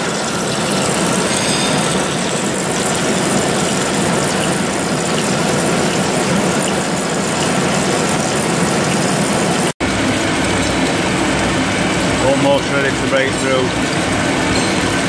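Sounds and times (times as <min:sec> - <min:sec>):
boring machine running: 0:00.0 - 0:15.0.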